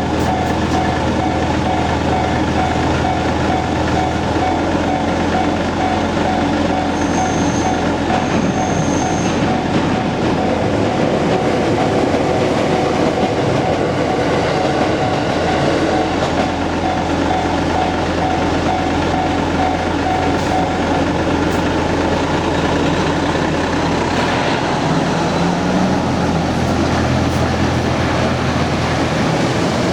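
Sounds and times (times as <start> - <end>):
crossing warning bell ringing: 0.0 - 29.9
electric train running past: 0.0 - 29.9.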